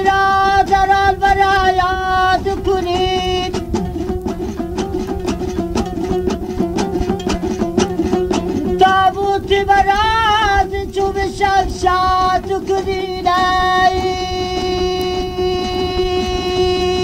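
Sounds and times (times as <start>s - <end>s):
lute strummed rhythmically: 0.0s - 17.0s
person singing with bending notes: 0.0s - 17.0s.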